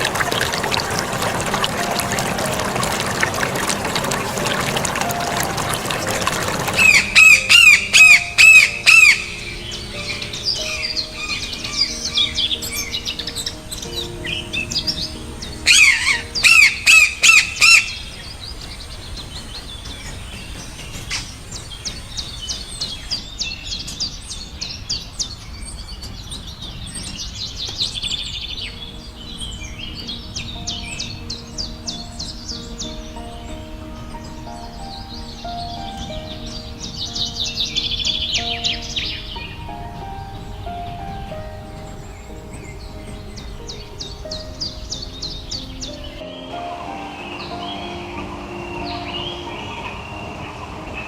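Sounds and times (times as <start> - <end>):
birds calling sharp repeated notes: 0.0 - 51.0
soft background music: 0.0 - 51.0.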